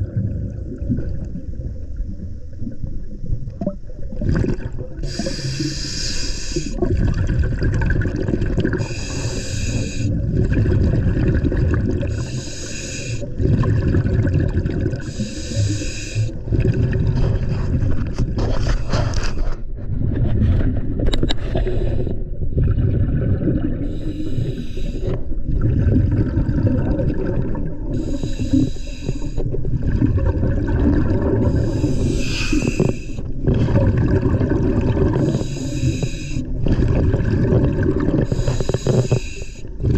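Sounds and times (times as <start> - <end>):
regulator bubbling exhalations: 3.7 - 19.6, 21.2 - 39.9.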